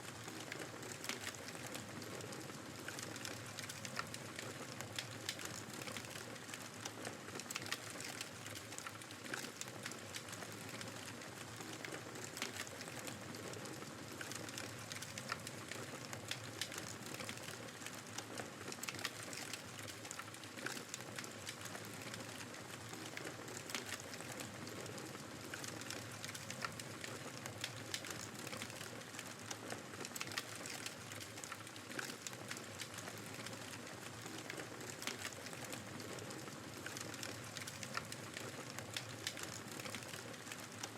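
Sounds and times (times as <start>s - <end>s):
wood fire crackling and popping: 0.1s - 40.9s.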